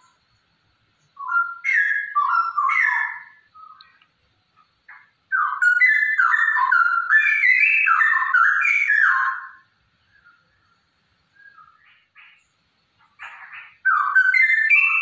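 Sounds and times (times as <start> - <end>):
bird singing fluty whistled notes: 0.0 - 4.0, 4.9 - 15.0.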